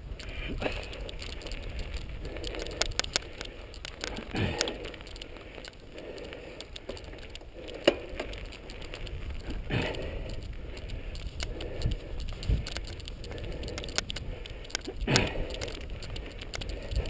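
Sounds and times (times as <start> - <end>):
mountain bike clicks and knocks: 0.0 - 17.0
tyre noise on dirt: 0.0 - 17.0.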